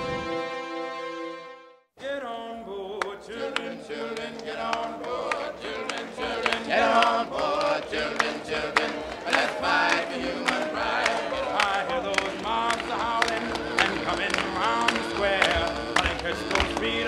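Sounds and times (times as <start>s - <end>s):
voices singing in chorus: 2.1s - 17.0s
sharp clap-like beat: 3.0s - 17.0s.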